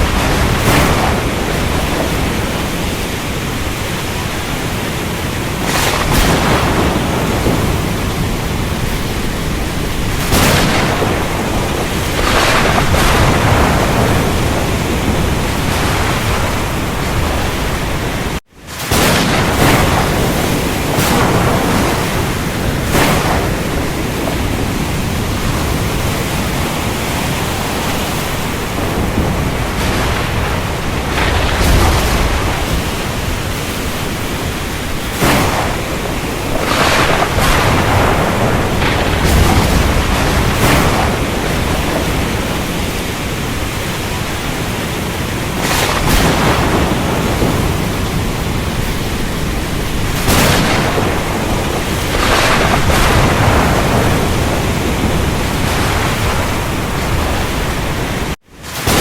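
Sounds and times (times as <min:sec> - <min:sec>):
heavy rain: 0:00.0 - 0:59.0
thunder rumbling: 0:00.0 - 0:59.0.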